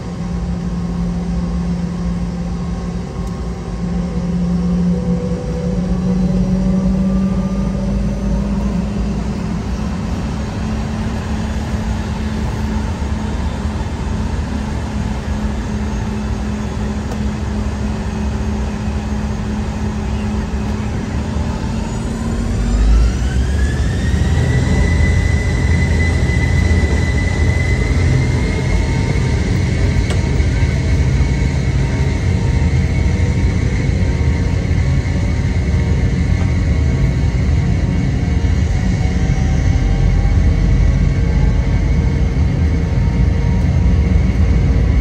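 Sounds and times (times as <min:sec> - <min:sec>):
jet engines humming and rumbling: 0:00.0 - 0:45.0
jet engines spooling up whine: 0:00.0 - 0:45.0.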